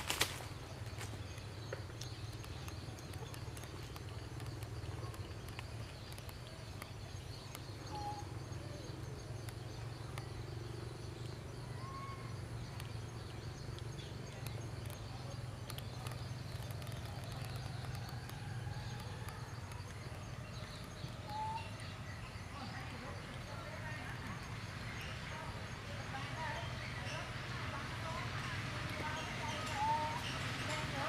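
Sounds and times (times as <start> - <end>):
faint chirps: 0.3 - 31.0.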